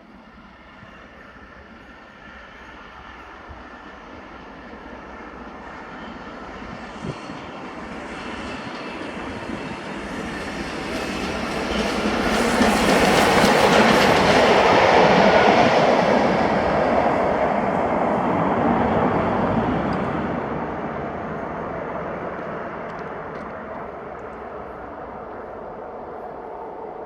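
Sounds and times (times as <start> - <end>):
steam train passing: 0.0 - 27.0
train wheels on rails: 0.0 - 27.0.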